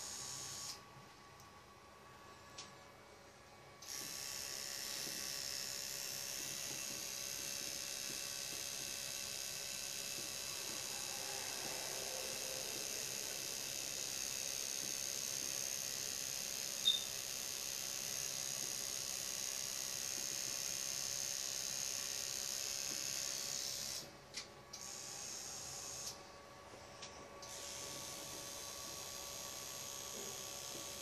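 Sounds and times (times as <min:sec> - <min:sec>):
tattoo machine motor whine: 0:00.0 - 0:00.9, 0:03.8 - 0:31.0.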